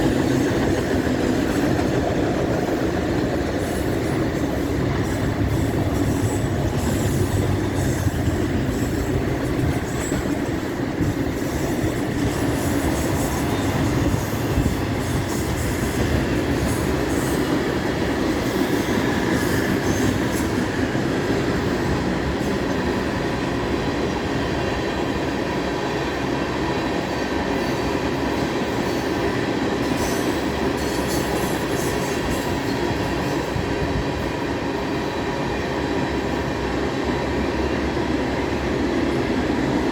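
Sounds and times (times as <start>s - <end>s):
freight train wheels rumbling: 0.0s - 39.9s
train clicks and clatter: 0.0s - 39.9s.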